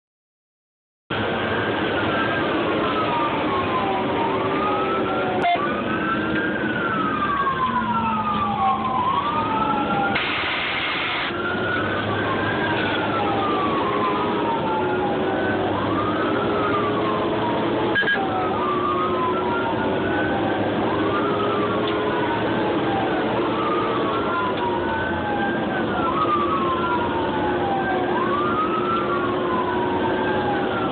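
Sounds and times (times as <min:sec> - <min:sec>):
fire engine siren wailing: 0:01.1 - 0:30.9.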